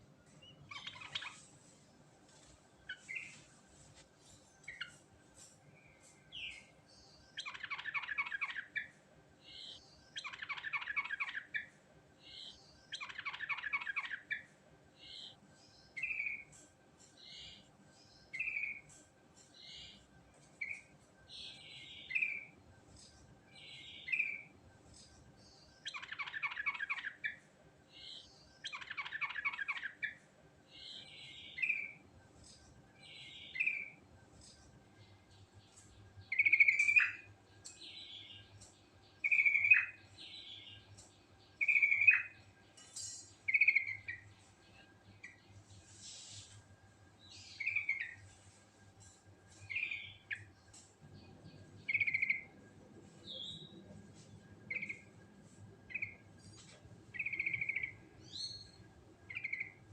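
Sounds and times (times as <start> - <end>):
bird trilled song phrases: 0.4 - 1.5, 5.9 - 20.0, 23.6 - 32.0, 33.0 - 46.6, 47.3 - 59.9.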